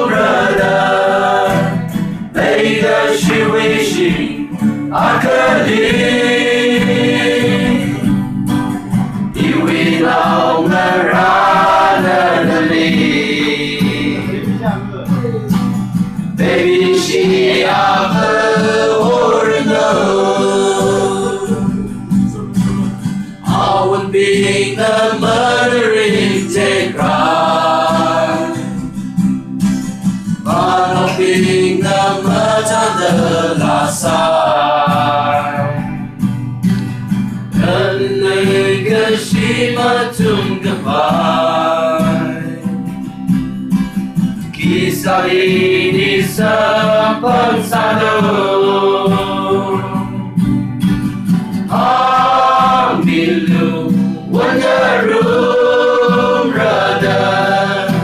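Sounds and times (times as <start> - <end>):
group of people singing: 0.0 - 14.6, 15.5 - 36.4, 37.1 - 43.5, 44.2 - 58.0
acoustic guitars: 0.0 - 58.0.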